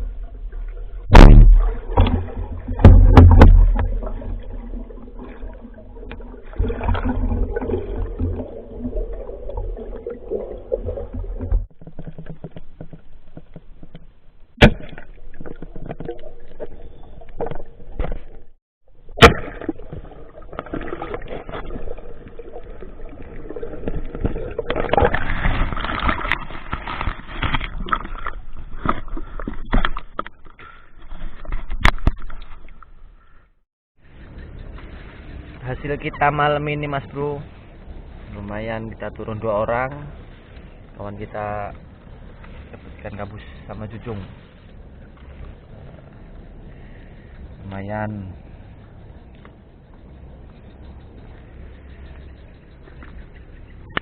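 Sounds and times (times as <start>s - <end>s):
muffled water gurgling: 0.0s - 54.0s.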